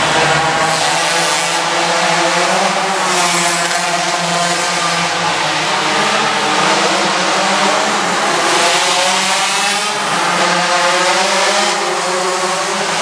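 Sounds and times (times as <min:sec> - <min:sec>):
small engine revving hard: 0:00.3 - 0:13.0.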